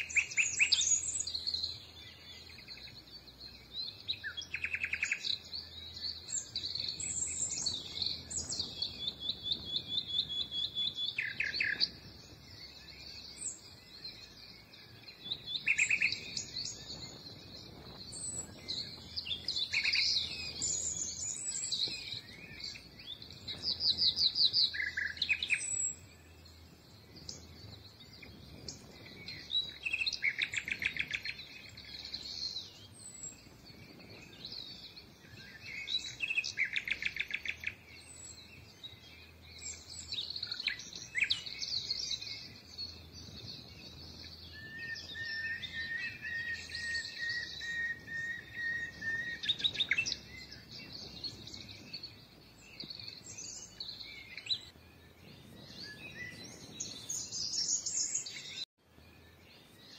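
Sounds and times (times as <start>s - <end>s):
songbirds trilling and chirping: 0.0s - 59.9s.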